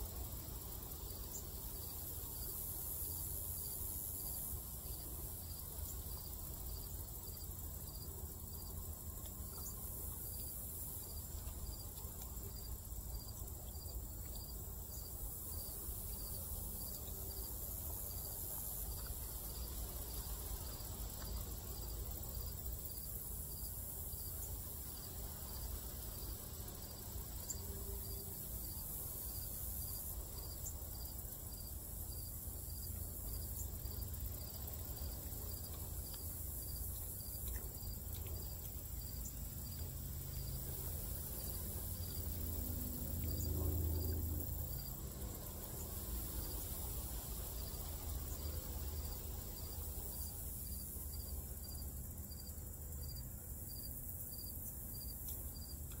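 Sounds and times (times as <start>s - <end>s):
constant high hiss: 0.0s - 56.0s
insect chirping: 0.0s - 56.0s.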